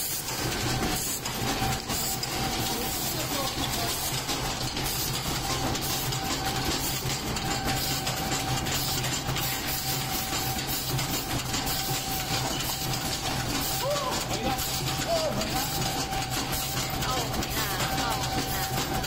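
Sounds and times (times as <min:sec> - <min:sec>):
machine clattering: 0:00.0 - 0:19.0
machine whine: 0:00.0 - 0:19.0.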